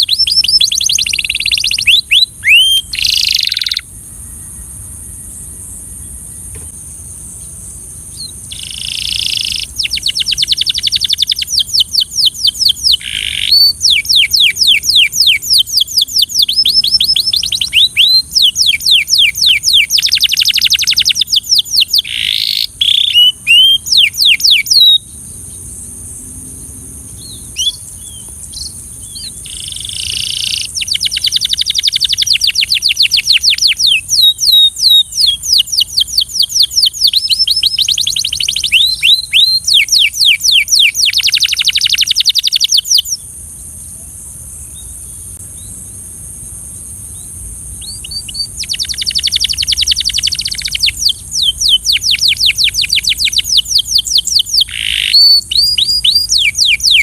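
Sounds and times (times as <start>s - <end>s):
canary singing in rapid trills: 0.0s - 3.9s, 8.2s - 25.0s, 27.2s - 43.2s, 47.8s - 57.0s
steady high hiss: 0.0s - 57.0s.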